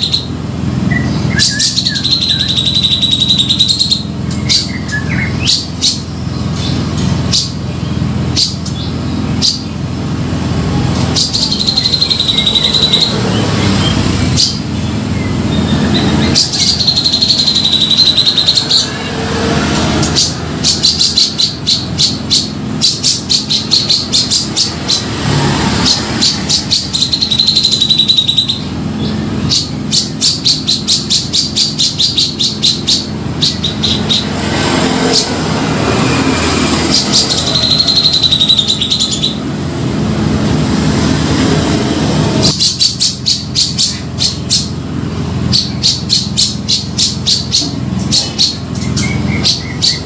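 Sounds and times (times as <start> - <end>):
bulbul singing: 0.0 - 50.0.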